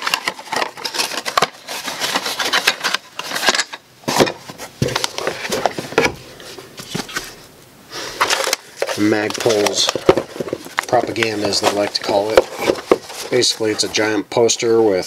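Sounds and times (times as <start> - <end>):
cardboard box rustling: 0.0 - 7.5, 8.2 - 14.0.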